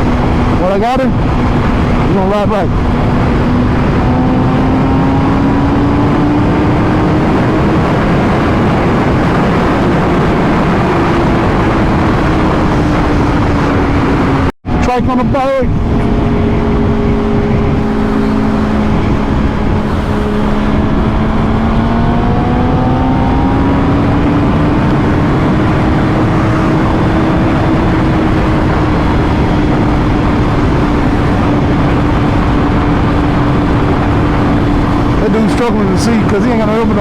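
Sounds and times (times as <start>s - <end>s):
motorcycle engine running: 0.0s - 37.0s
wind rush: 0.0s - 37.0s.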